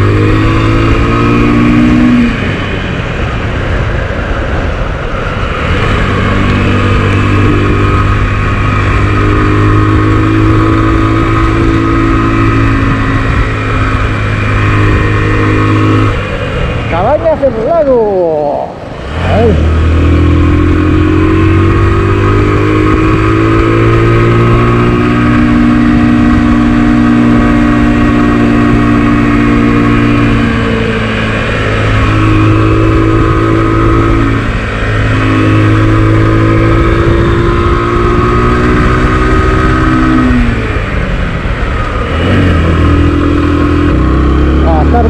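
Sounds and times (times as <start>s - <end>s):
motorcycle engine running: 0.0s - 17.7s, 18.8s - 45.0s.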